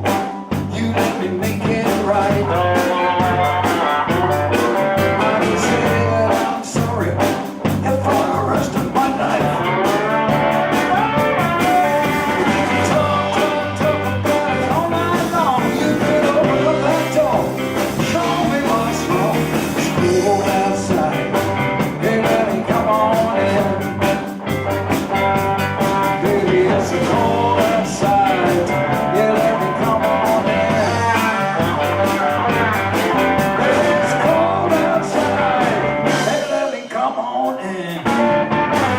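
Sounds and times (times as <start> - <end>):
live blues band playing: 0.0 - 38.9.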